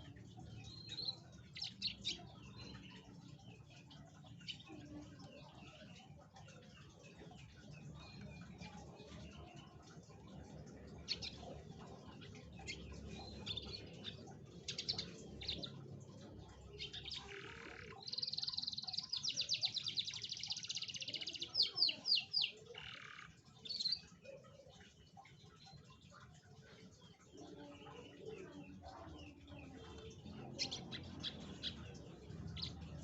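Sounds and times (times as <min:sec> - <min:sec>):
canary singing chirps and trills: 0:00.0 - 0:33.0.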